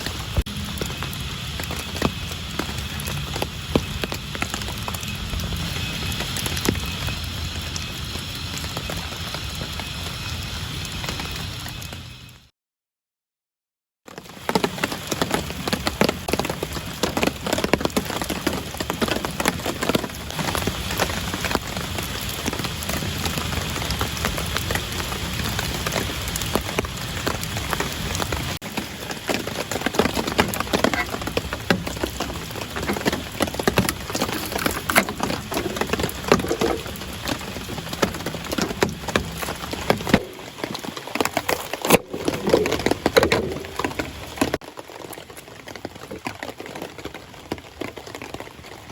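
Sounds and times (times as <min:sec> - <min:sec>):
steady rain falling: 0:00.0 - 0:12.5, 0:14.1 - 0:48.9.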